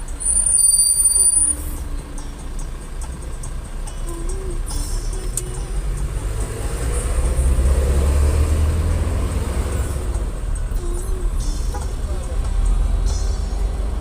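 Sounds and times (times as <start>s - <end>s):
road vehicle engine and tyres rumble: 0.0s - 14.0s.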